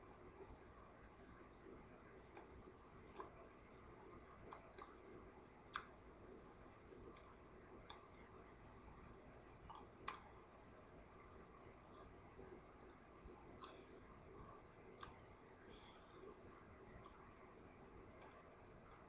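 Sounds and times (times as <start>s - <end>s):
faint irregular clicks: 0.3s - 19.0s.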